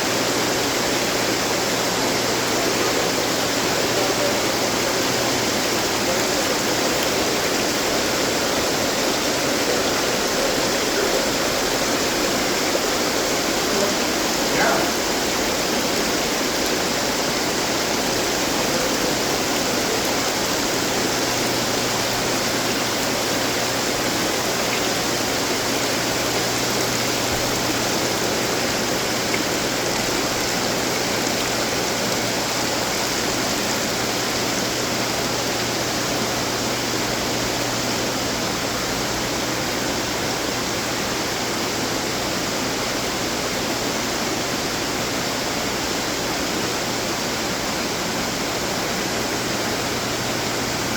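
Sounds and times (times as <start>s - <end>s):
fountain water splashing: 0.0s - 50.9s.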